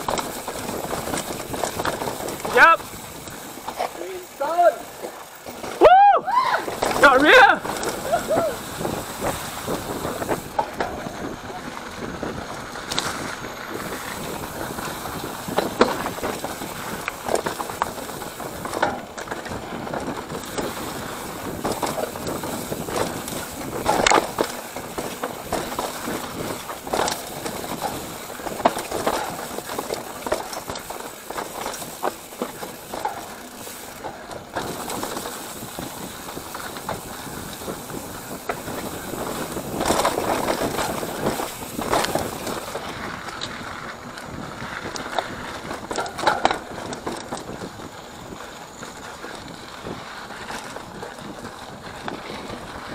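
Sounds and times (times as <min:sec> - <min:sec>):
bike knocking and clattering: 0:00.0 - 0:52.9
mountain bike tyre rush: 0:00.0 - 0:52.9.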